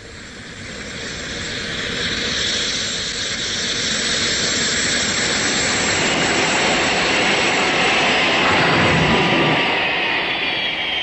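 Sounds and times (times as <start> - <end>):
jet aircraft engine rush: 0.0 - 11.0.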